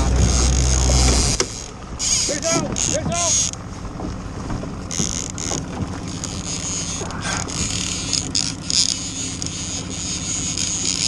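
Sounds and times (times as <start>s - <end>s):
outboard motor running: 0.0s - 11.0s
short rattles: 0.0s - 11.0s.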